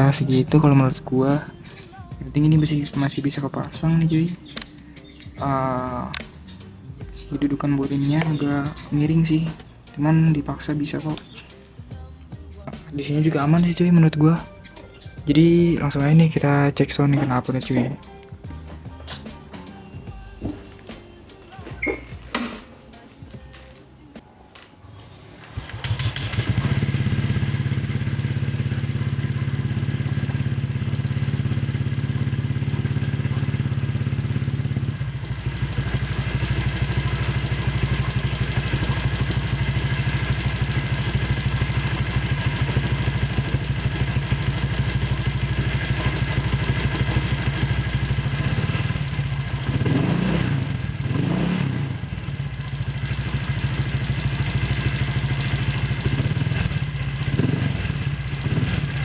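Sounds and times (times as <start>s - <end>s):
motorbike engine idling: 0.0s - 24.2s, 24.9s - 59.0s.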